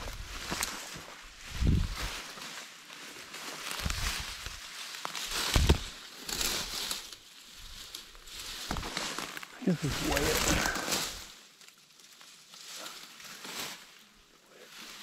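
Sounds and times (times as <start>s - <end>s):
dry stems crackling: 0.0s - 15.0s
footsteps through tall grass: 0.0s - 15.0s.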